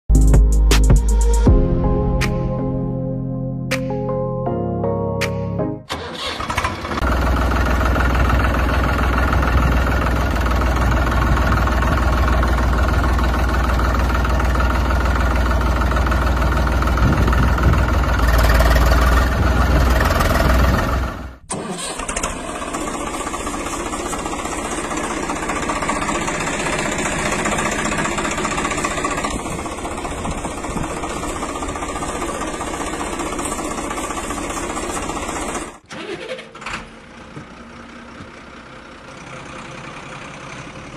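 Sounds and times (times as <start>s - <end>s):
thinner engine running: 5.9s - 40.9s
tractor engine rumbling: 5.9s - 40.9s.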